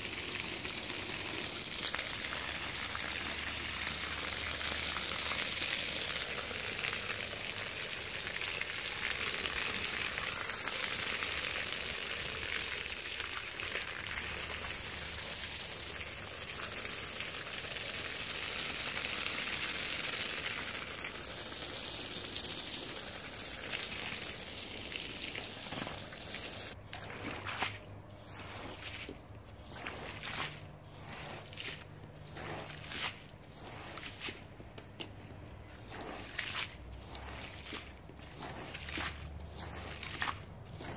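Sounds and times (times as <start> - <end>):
squeegee pushed across wet rug: 0.0 - 26.2, 26.9 - 34.8, 35.5 - 40.9
water pouring and splashing on rug: 0.0 - 40.9.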